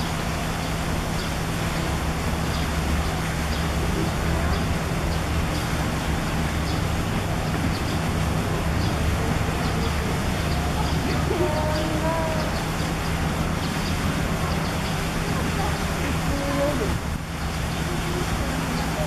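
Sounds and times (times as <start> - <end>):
constant rushing noise: 0.0 - 19.0.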